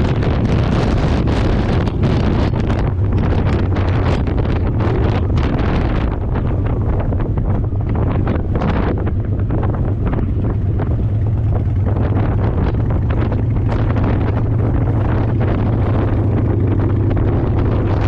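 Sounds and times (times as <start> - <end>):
low engine drone: 0.0 - 18.0
wind buffeting microphone: 0.0 - 18.0.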